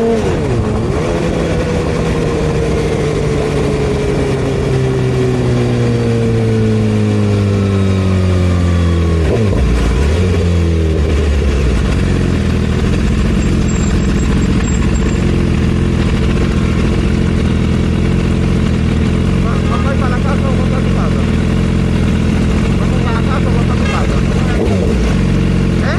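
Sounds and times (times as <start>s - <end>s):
motorcycle engine slowing: 0.0s - 25.9s.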